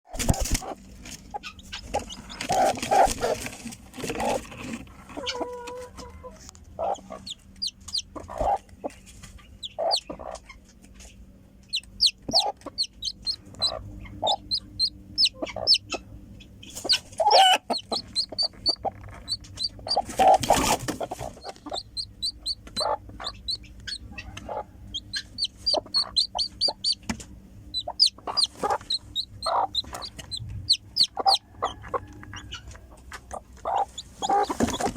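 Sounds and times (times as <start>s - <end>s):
chick peeping: 0.1s - 34.9s
lower clucks: 0.1s - 34.9s.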